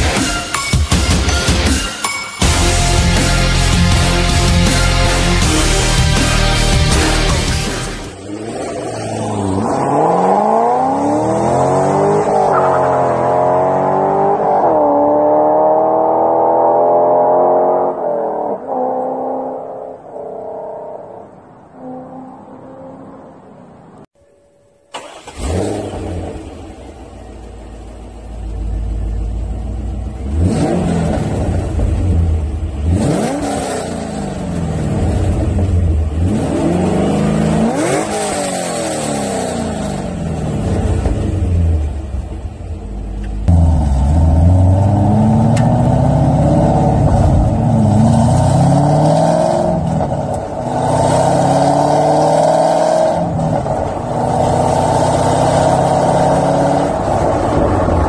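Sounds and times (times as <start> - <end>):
car engine idling and revving: 2.4 - 24.1, 24.9 - 58.0.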